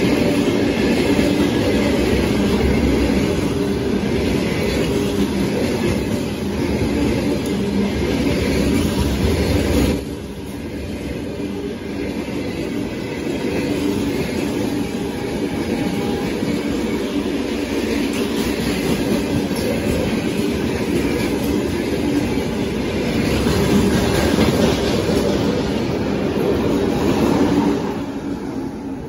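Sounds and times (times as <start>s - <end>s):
steel wheels rumbling on rails: 0.0s - 29.0s.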